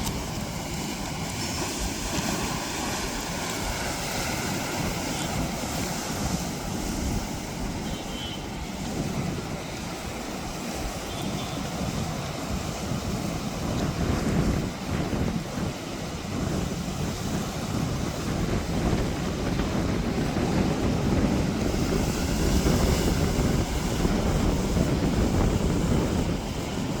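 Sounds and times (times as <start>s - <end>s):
sea waves washing in: 0.0s - 27.0s
wind buffeting microphone: 0.0s - 27.0s.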